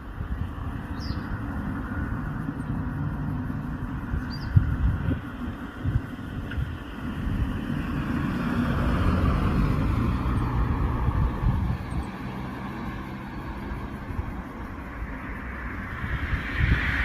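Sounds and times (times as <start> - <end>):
motor vehicle passing: 1.0 - 17.0.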